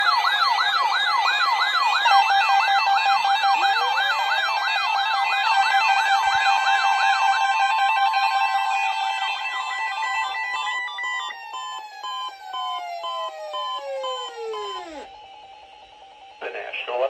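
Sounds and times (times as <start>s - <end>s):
siren-like electronic alarm: 0.0s - 17.0s.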